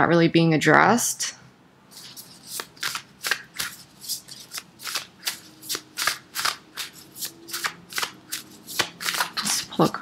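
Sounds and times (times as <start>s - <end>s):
cards being shuffled: 1.9s - 10.0s.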